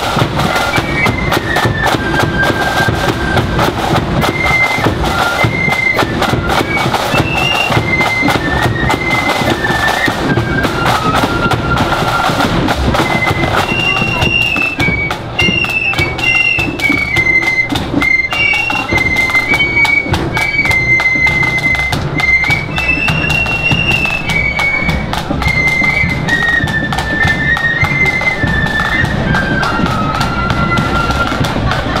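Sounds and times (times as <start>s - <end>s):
flute band playing: 0.0s - 32.0s
steady drumbeat: 0.0s - 32.0s.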